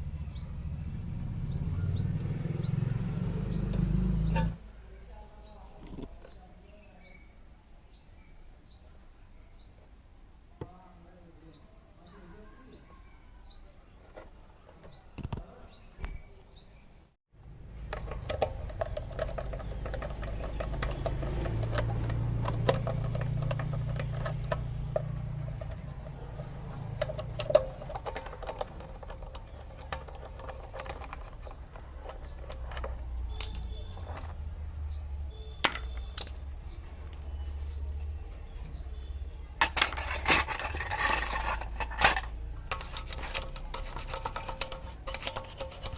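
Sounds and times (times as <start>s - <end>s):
small birds chirping: 0.0s - 10.0s, 10.7s - 45.9s.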